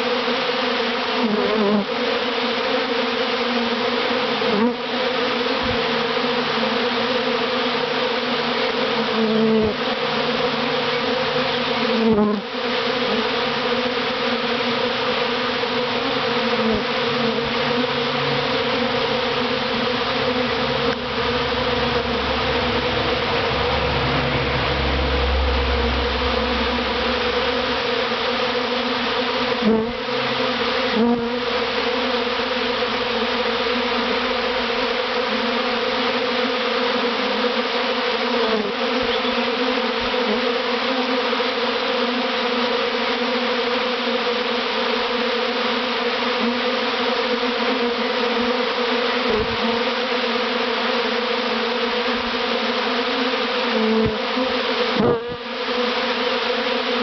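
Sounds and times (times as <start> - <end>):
honeybee swarm buzzing: 0.0 - 57.0.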